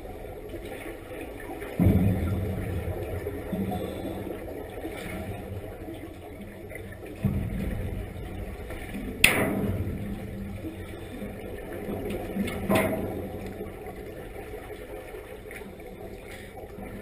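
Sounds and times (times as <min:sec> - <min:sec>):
underwater air bubbling: 0:00.0 - 0:17.0.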